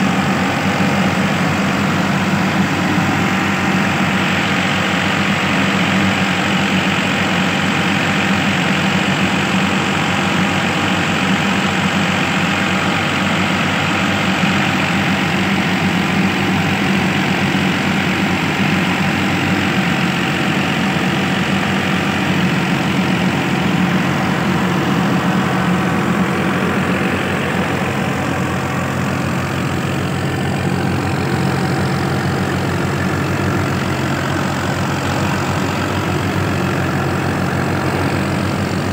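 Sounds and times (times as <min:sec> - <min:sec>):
diesel engine driving thresher: 0:00.0 - 0:38.9.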